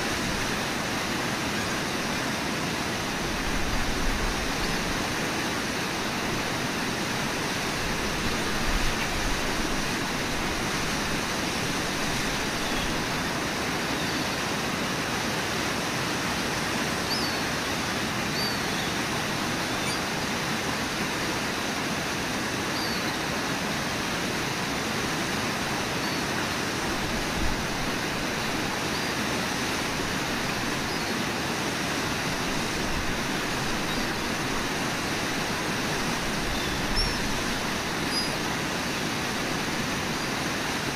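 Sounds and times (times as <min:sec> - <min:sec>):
waterfall rushing: 0:00.0 - 0:40.9
whitewater rapids: 0:00.0 - 0:40.9.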